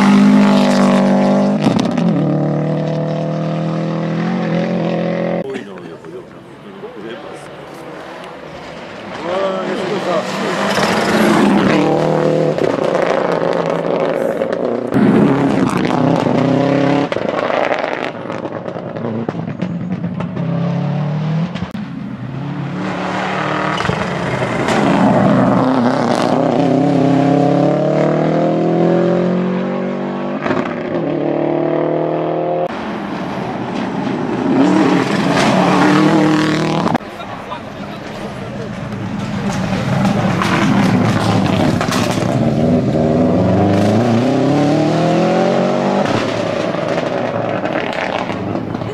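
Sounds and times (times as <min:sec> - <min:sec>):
rally car engine passing at speed: 0:00.0 - 0:05.5, 0:06.6 - 0:48.9.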